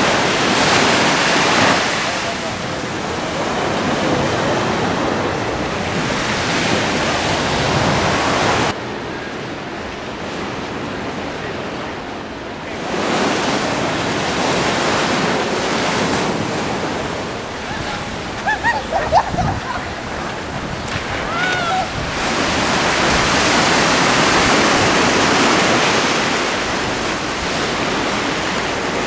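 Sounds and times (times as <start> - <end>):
ocean surf on beach: 0.0 - 29.0.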